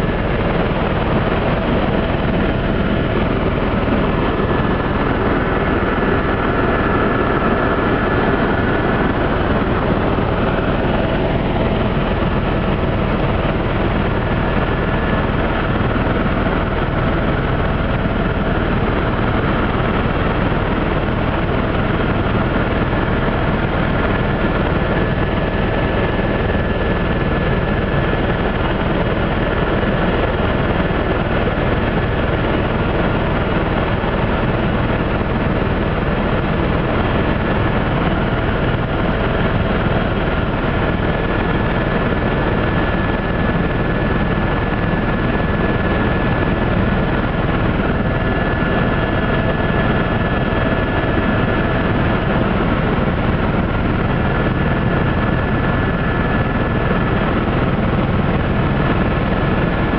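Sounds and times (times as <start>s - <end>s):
constant whining tones: 0.0s - 59.9s
helicopter engine and rotor drone: 0.0s - 59.9s.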